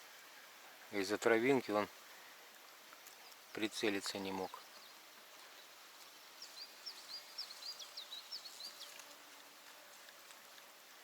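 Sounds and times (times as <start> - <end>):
faint steady hiss: 0.0 - 11.0
songbird singing: 0.2 - 9.5.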